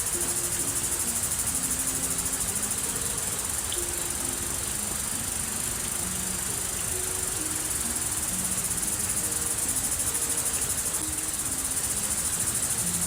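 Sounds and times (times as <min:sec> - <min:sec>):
insects trilling: 0:00.0 - 0:13.0
soft music of held low notes: 0:00.0 - 0:13.0.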